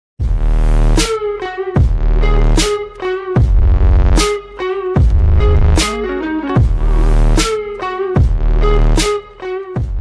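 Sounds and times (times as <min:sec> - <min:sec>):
electronic music with heavy bass: 0:00.2 - 0:10.0.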